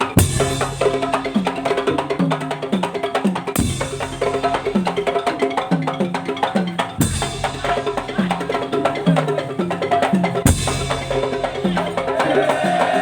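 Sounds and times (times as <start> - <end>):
wooden slit drums and drums: 0.0 - 13.0.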